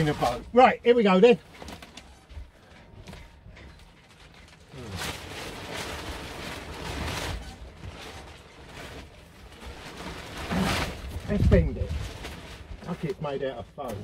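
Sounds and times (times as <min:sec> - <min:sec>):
fabric cover rustling and scraping: 0:00.0 - 0:14.0.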